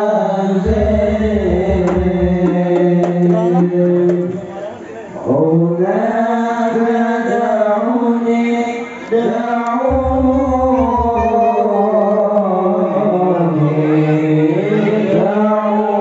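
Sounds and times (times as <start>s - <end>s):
men singing in unison over pa: 0.0s - 4.5s, 5.2s - 16.0s.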